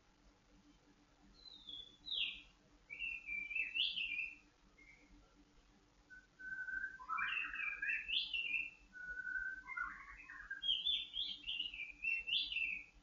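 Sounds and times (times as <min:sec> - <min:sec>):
bird singing whistled phrases: 0:01.4 - 0:05.1, 0:06.1 - 0:12.9.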